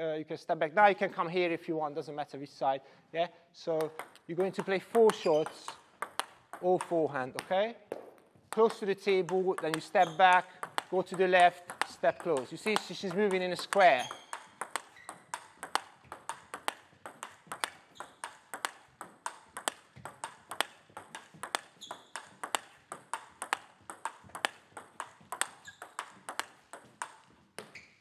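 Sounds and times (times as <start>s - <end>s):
table tennis ball ticking: 3.8s - 27.7s.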